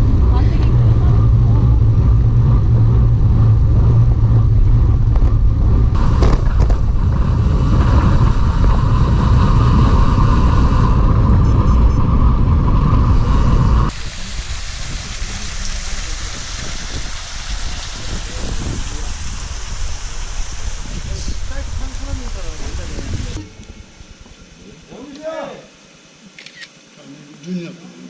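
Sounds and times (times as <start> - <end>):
road and tyre noise: 0.0 - 24.3
wind rumbling on microphone: 0.0 - 24.7.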